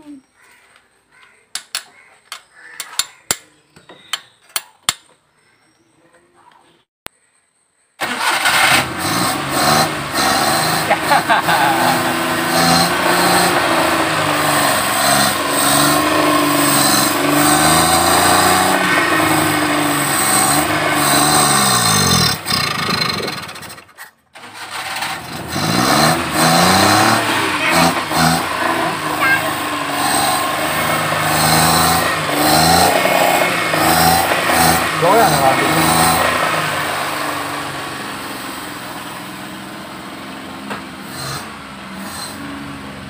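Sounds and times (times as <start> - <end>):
small car engine revving: 8.0 - 43.0.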